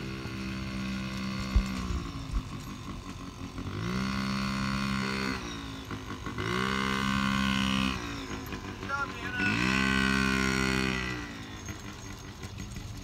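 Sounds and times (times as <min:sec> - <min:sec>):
two-stroke mini bike engine revving: 0:00.0 - 0:13.0.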